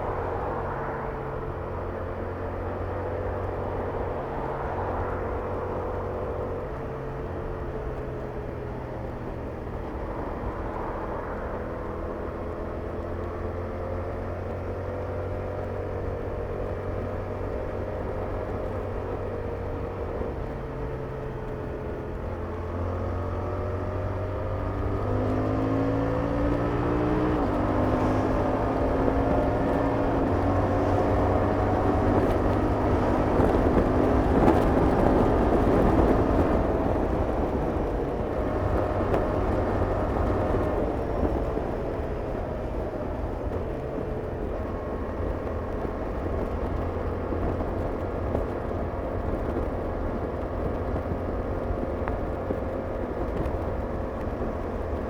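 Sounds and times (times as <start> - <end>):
motorcycle engine accelerating: 8.9 - 55.0.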